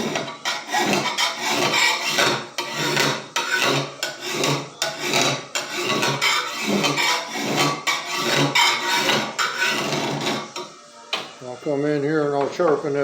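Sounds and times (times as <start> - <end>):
rasp filing metal blade: 0.0 - 10.7.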